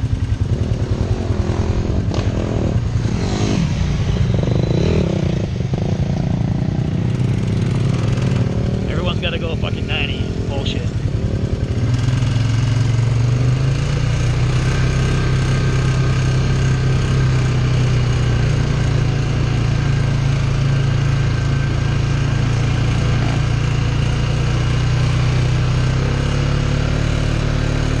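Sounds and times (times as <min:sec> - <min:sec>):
atv engine droning: 0:00.0 - 0:28.0.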